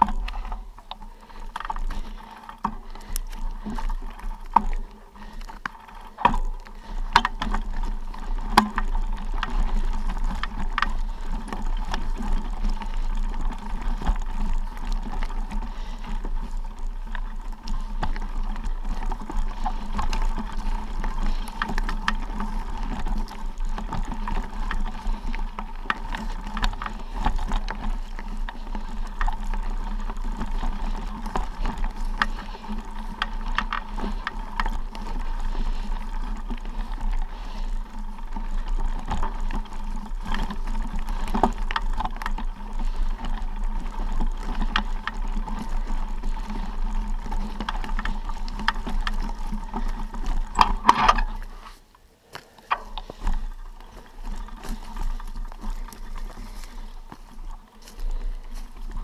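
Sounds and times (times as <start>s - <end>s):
bike rattling over rocks: 0.0s - 59.0s
tyres crunching over stones: 0.0s - 59.0s.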